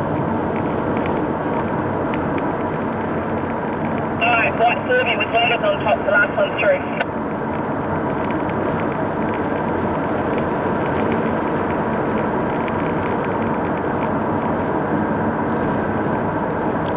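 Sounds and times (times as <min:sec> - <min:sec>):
engines and tyres on road: 0:00.0 - 0:16.9.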